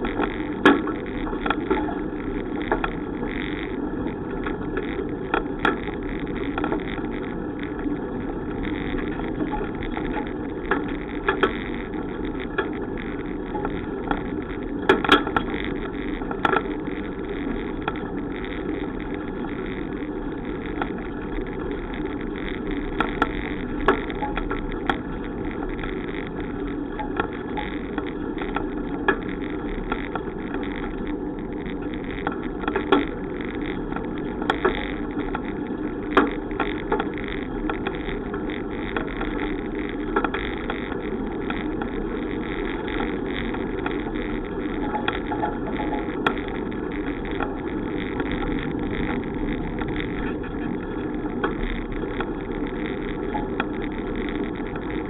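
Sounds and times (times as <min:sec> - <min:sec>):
bicycle road and wind noise: 0:00.0 - 0:55.0.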